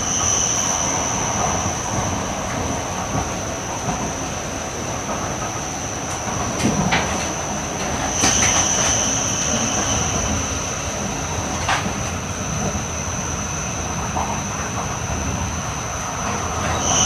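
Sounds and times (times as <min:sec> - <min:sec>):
high steady train whine: 0:00.0 - 0:17.0
train wheels rumbling on rail: 0:00.0 - 0:17.0.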